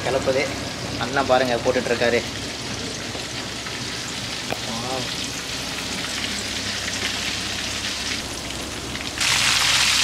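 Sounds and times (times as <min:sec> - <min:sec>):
food frying in hot oil: 0:00.0 - 0:10.0.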